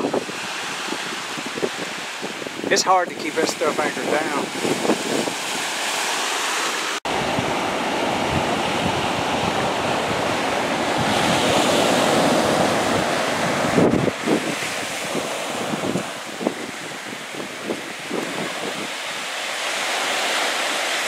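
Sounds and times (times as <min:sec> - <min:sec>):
wind buffeting microphone: 0:00.0 - 0:06.0, 0:07.1 - 0:20.5
small surf breaking on beach: 0:00.0 - 0:21.0.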